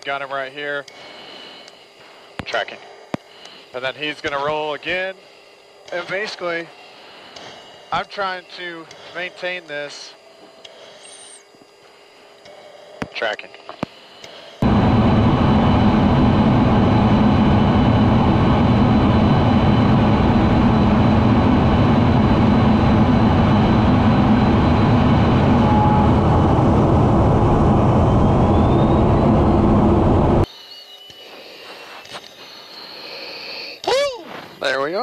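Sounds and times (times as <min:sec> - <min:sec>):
jet cockpit engine and air noise: 0:00.0 - 0:35.0.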